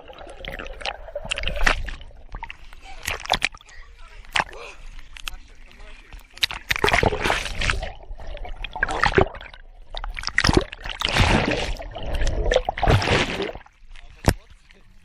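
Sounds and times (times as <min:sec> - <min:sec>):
pool water splashing: 0:00.0 - 0:14.1.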